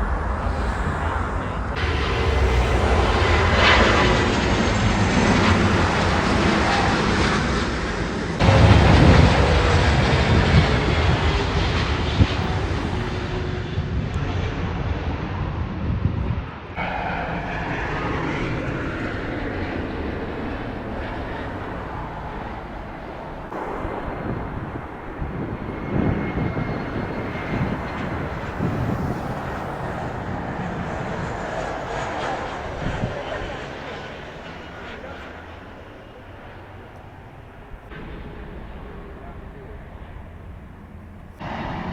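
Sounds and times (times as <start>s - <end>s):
jet airliner engines: 0.0s - 41.9s
steady aircraft rumble: 0.0s - 41.9s.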